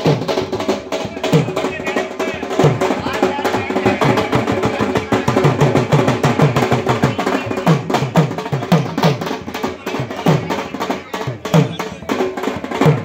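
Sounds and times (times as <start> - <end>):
drums beaten in fast rhythm: 0.0 - 13.0.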